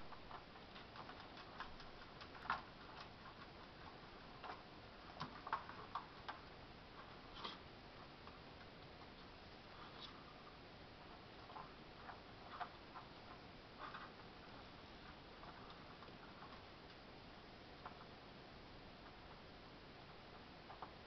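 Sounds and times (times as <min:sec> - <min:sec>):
kittens scratching and clicking: 0:00.1 - 0:17.1, 0:20.0 - 0:21.0.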